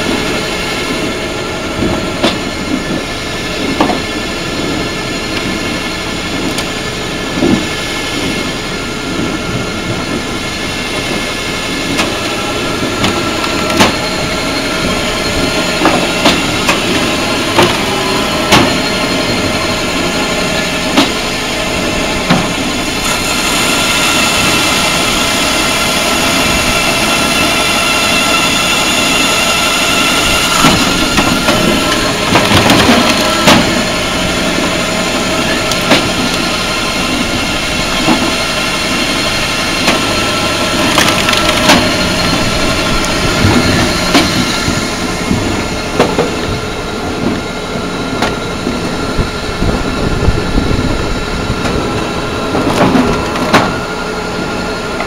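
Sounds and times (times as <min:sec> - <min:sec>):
engine drone: 0:00.0 - 0:55.0.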